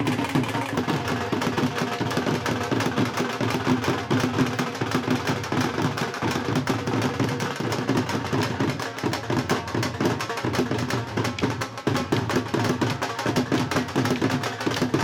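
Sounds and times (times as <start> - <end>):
drum beaten fast: 0.0 - 15.0.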